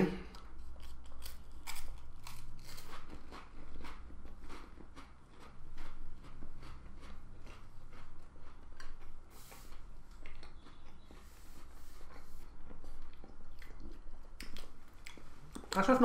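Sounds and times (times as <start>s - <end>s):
chewing crisp cracker: 0.2s - 15.8s.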